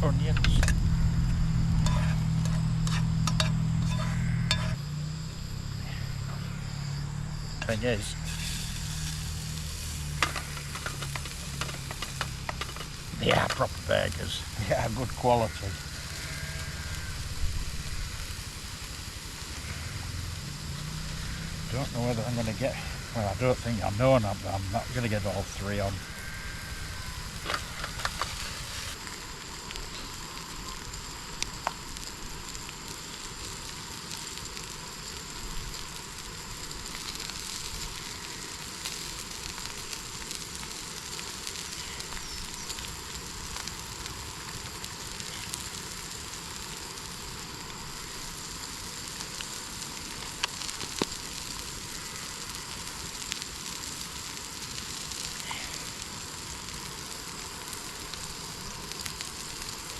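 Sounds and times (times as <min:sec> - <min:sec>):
burgers sizzling in a pan: 0:00.0 - 0:59.9.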